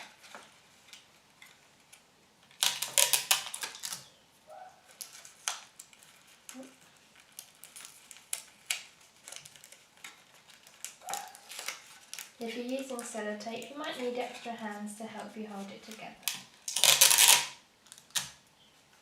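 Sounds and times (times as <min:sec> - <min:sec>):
sticky tape ripping off roll: 0:00.0 - 0:04.1, 0:04.9 - 0:14.3, 0:15.9 - 0:18.5.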